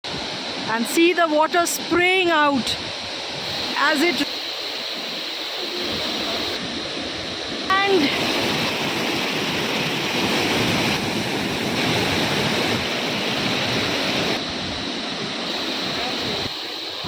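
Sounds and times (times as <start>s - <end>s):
waterfall roaring: 0.1s - 17.0s.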